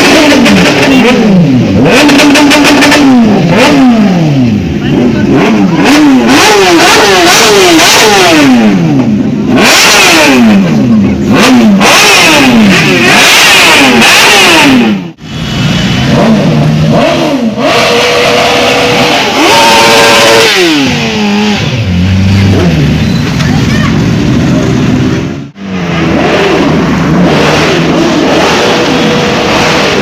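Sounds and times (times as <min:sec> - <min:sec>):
motorbike engines revving: 0:00.0 - 0:30.0.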